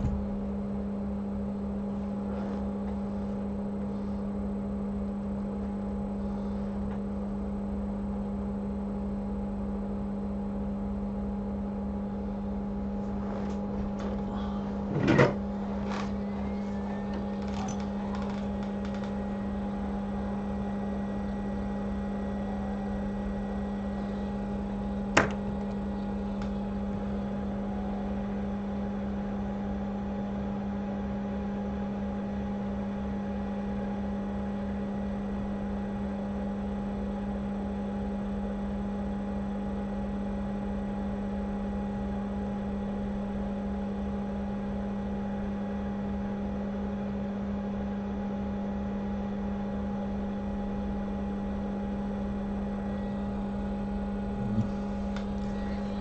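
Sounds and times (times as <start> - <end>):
hot air station whirring hum: 0.0 - 56.0.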